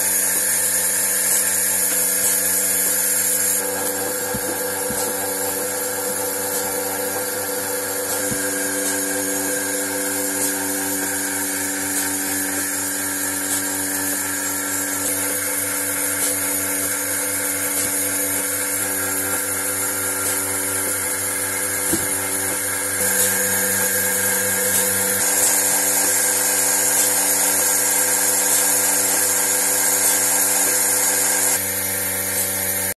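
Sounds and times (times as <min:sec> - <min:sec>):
milking machine motor whine: 0:00.0 - 0:32.9.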